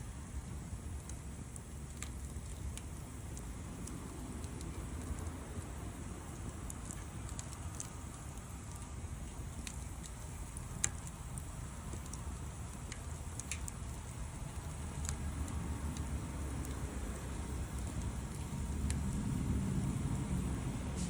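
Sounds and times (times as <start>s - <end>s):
campfire crackling and popping: 0.0s - 21.0s
fire rumble: 0.0s - 21.0s.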